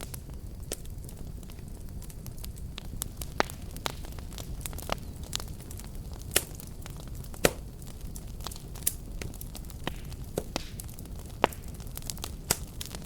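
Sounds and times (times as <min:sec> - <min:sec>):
fire crackling and popping: 0:00.0 - 0:13.0
low rumble of burning: 0:00.0 - 0:13.0.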